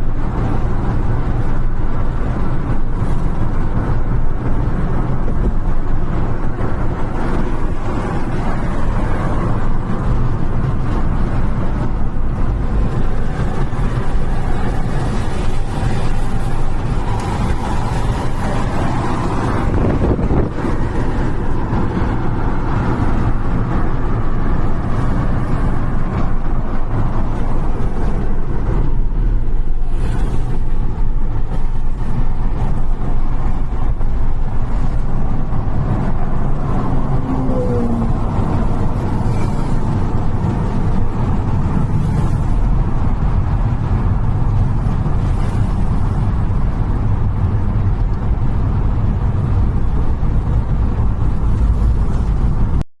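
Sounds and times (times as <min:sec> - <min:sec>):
traffic rumble: 0:00.0 - 0:52.8
vehicles passing with hiss: 0:00.0 - 0:52.8.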